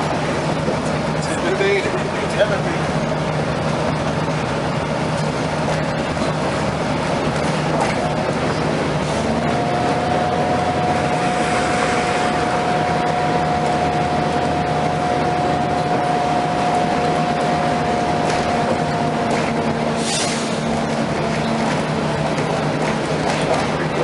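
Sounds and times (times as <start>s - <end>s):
air conditioning rush: 0.0s - 24.0s
bus engine running: 0.0s - 24.0s
steady whine: 0.0s - 24.0s.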